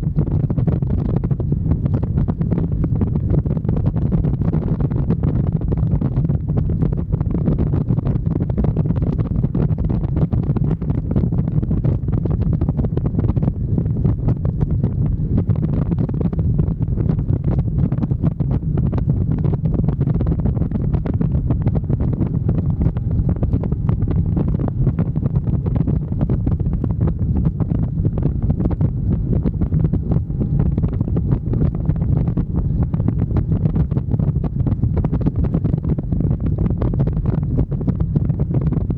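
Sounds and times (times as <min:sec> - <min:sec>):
road and engine noise: 0:00.0 - 0:38.9
wind buffeting microphone: 0:00.0 - 0:38.9.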